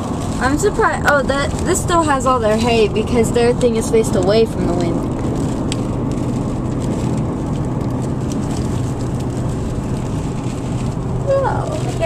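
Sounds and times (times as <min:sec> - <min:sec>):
engine and tyres humming: 0:00.0 - 0:12.0
light rain ticking on car: 0:00.0 - 0:12.0.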